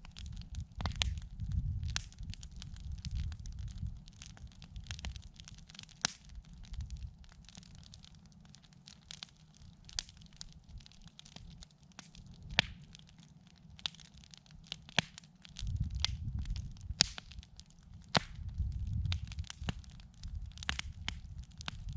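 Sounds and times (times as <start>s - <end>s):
campfire crackling and popping: 0.0s - 21.9s.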